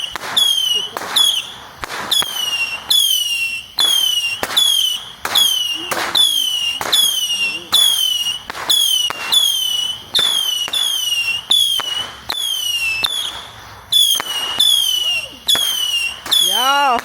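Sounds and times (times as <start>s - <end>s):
firework whistle falling in pitch: 0.0s - 17.0s
fireworks popping: 0.0s - 17.0s.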